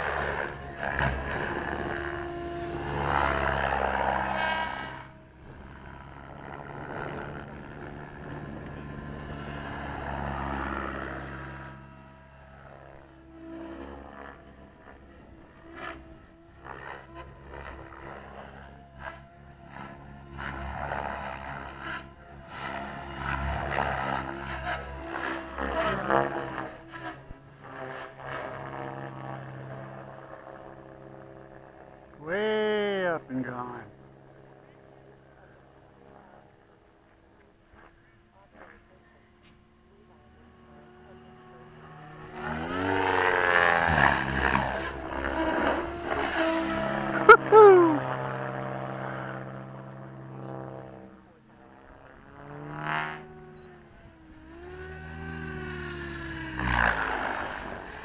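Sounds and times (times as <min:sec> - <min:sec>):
model helicopter rotor whine: 0:00.0 - 0:58.0.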